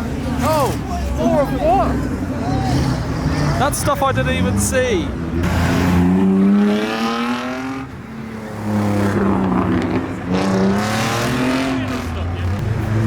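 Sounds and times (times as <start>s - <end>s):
car engines accelerating: 0.0s - 13.0s.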